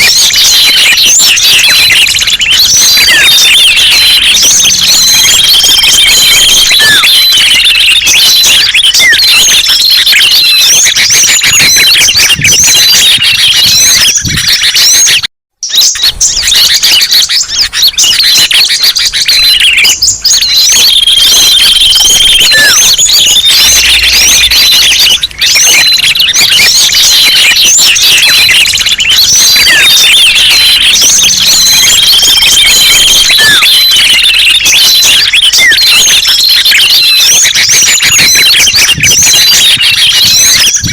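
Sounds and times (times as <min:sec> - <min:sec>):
songbirds chirping in chorus: 0:00.0 - 0:40.9
whistled bird notes: 0:00.0 - 0:40.9.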